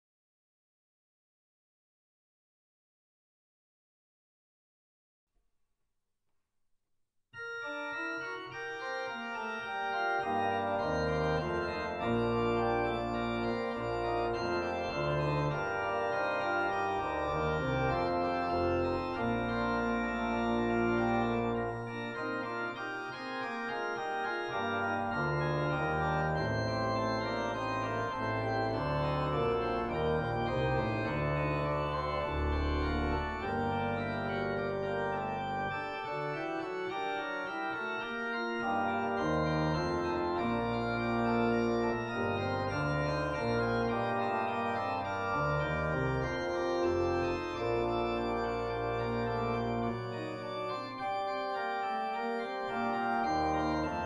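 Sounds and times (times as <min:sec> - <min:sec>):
organ playing slow chords: 0:07.4 - 0:54.0.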